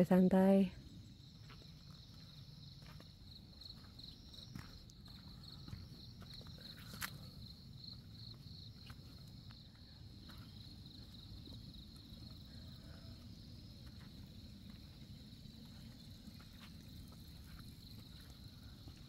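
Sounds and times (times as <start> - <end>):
insects trilling: 0.0 - 19.0
walking and handling rumble: 1.4 - 19.0.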